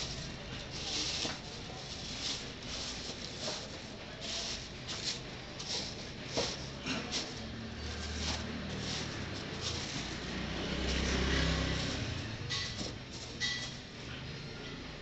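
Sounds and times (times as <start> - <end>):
plastic sheeting crinkling: 0.0 - 13.6.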